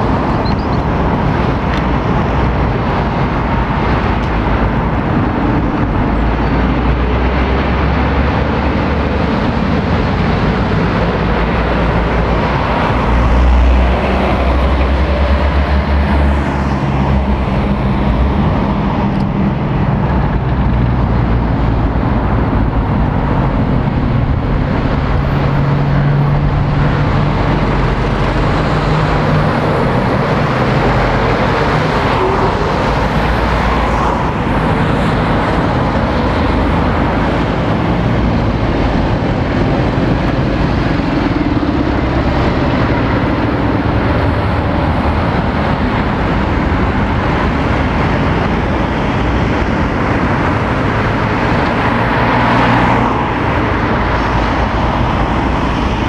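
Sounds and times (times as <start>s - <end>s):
cars and tyre noise: 0.0s - 56.0s
lorry diesel engine passing: 0.0s - 56.0s.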